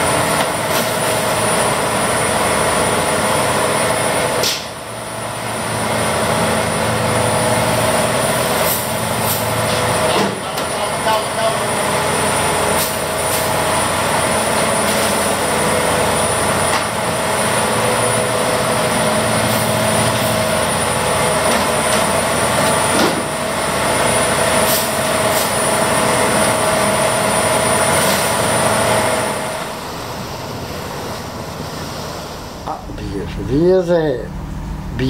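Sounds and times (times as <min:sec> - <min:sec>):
boat engine and machinery din: 0:00.0 - 0:35.0
constant high whine: 0:00.0 - 0:35.0.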